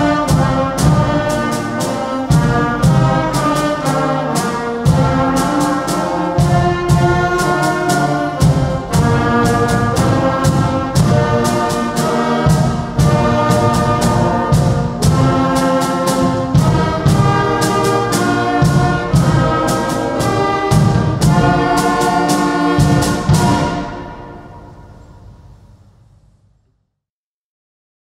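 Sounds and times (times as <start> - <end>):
percussion beat: 0.0 - 24.0
concert band playing: 0.0 - 25.7.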